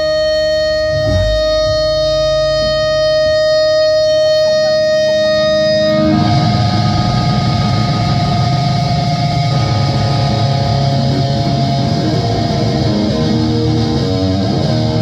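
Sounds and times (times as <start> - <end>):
low rumble: 0.0 - 14.0
distorted electric guitar: 0.0 - 15.0.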